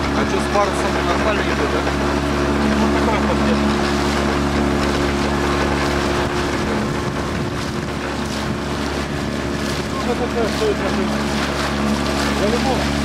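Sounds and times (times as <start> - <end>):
boat motor droning: 0.0 - 13.0
water rushing past hull: 0.0 - 13.0
wind on microphone: 1.8 - 13.0.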